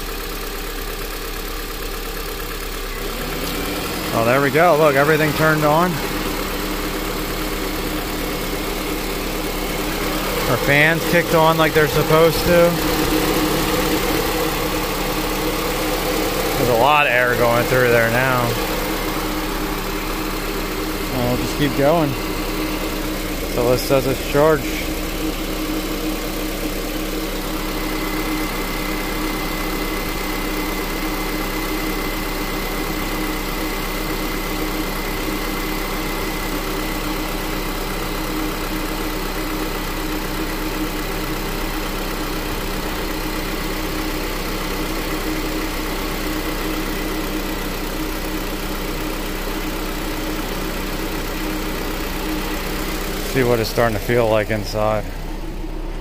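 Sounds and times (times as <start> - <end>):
car engine idling: 0.0 - 56.0
radiator fans running: 3.6 - 56.0.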